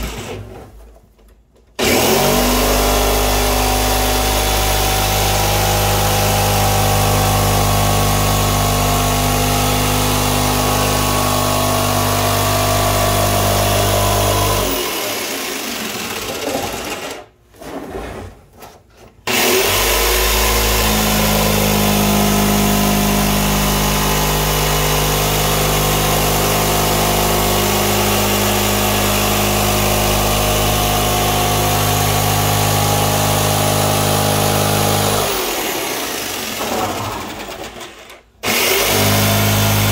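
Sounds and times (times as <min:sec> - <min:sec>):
jigsaw cutting plastic: 0:00.0 - 0:00.6, 0:01.8 - 0:17.4, 0:19.2 - 0:39.9.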